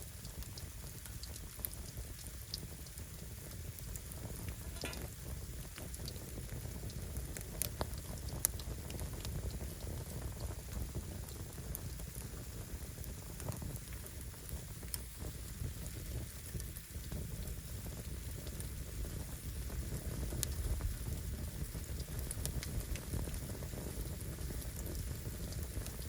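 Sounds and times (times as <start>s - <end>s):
firewood crackling and popping: 0.0s - 26.0s
fire rushing: 1.2s - 26.0s.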